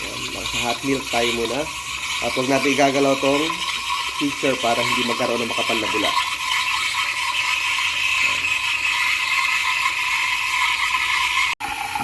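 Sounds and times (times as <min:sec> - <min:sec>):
espresso machine steam wand hissing: 0:00.0 - 0:12.0.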